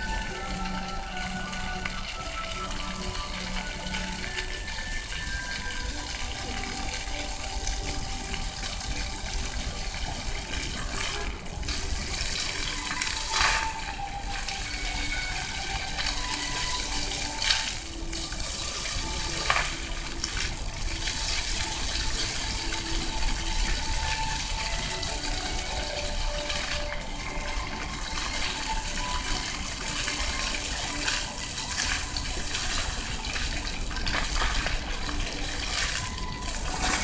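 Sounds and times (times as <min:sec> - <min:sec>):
fountain water splashing: 0:00.0 - 0:37.0.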